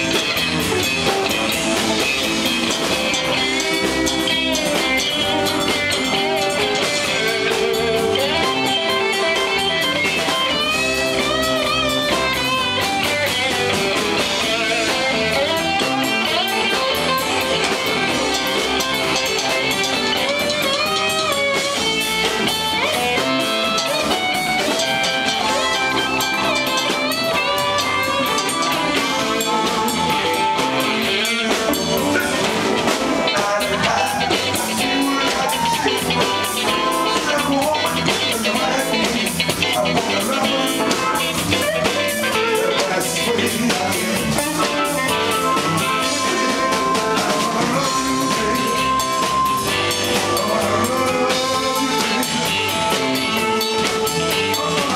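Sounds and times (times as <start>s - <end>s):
electric guitar lead lines: 0.0s - 54.9s
live blues band instrumental: 0.0s - 54.9s.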